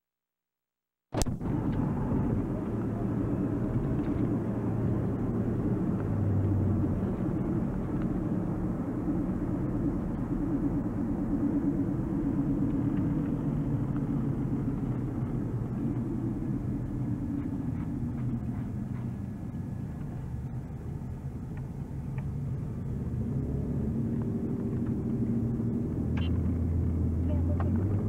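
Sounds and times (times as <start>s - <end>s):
car engine rumble: 1.2s - 28.0s
road noise inside car: 1.2s - 28.0s.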